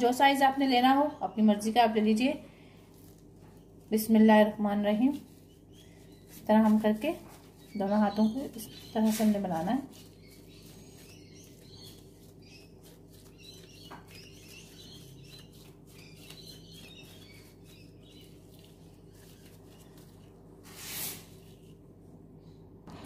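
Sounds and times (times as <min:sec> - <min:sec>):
steady low hum: 0:00.0 - 0:23.0
gloved hands squishing mixture: 0:00.1 - 0:22.3.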